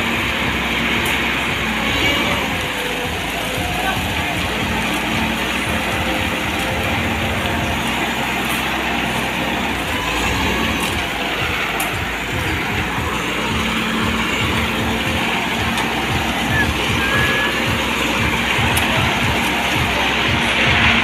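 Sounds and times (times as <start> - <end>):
concrete pouring down chute: 0.0 - 21.0
diesel engine running: 0.0 - 21.0.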